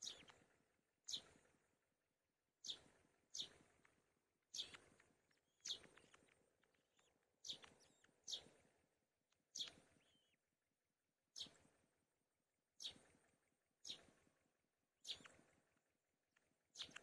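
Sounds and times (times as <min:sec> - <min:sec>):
soft bird chirps: 0:00.0 - 0:01.8, 0:02.6 - 0:17.0.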